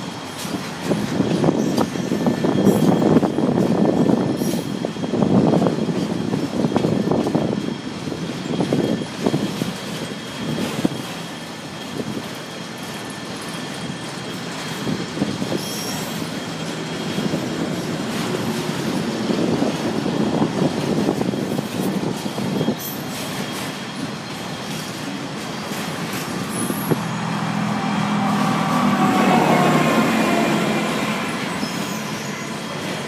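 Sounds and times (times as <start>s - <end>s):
high wheel squeal: 0.0s - 33.0s
train wheels clacking on rails: 0.0s - 33.0s.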